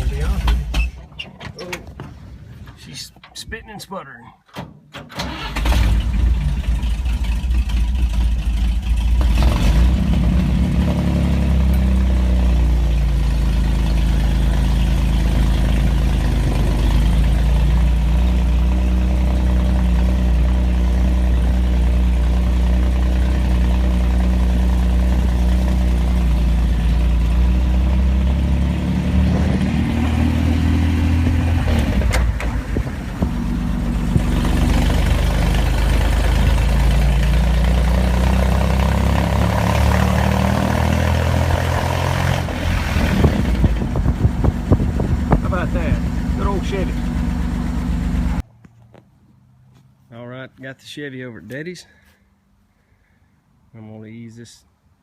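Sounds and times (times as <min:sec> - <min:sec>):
engine revving: 0:00.0 - 0:00.8, 0:05.2 - 0:48.4
car engine running rough: 0:00.0 - 0:00.9, 0:05.3 - 0:48.5.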